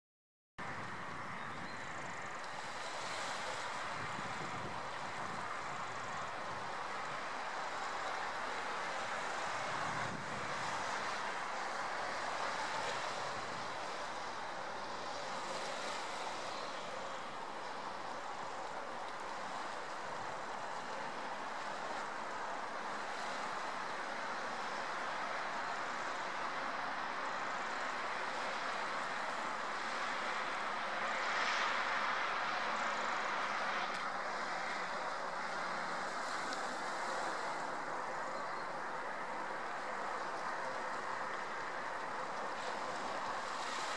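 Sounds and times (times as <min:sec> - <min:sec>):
small waves lapping on sand: 0:00.6 - 0:43.9.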